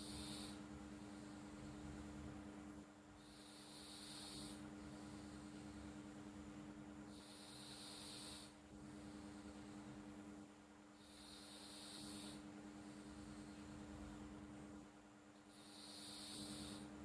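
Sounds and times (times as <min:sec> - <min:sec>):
cat snoring softly: 0:00.0 - 0:02.3, 0:03.2 - 0:10.3, 0:11.0 - 0:14.2, 0:15.4 - 0:17.0.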